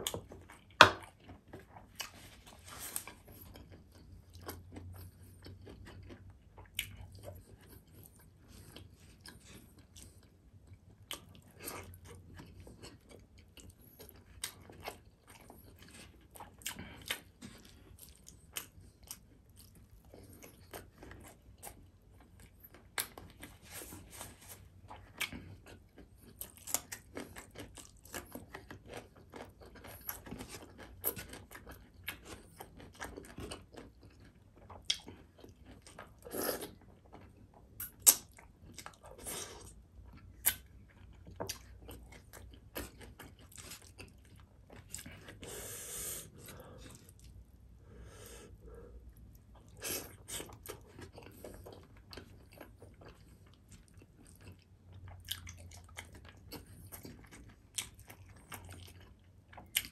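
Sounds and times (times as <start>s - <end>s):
man chewing food: 0.0s - 59.9s.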